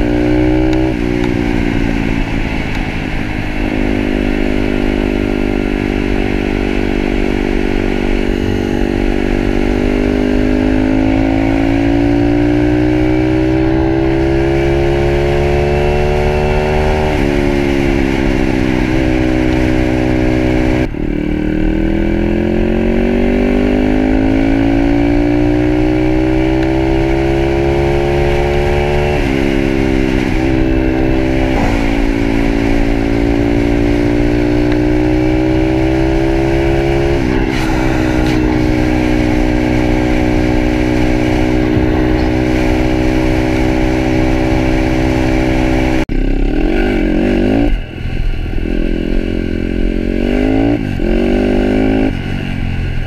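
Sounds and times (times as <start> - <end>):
motorbike engine accelerating: 0.0 - 53.0.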